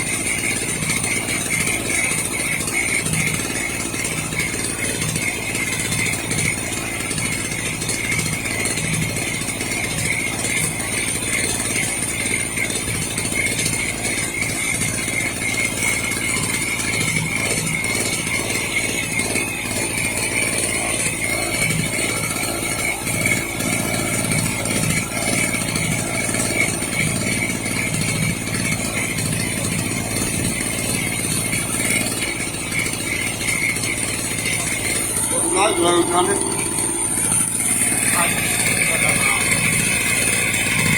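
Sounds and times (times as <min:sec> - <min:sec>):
generator engine running: 0:00.0 - 0:40.9
steady whine: 0:00.0 - 0:40.9.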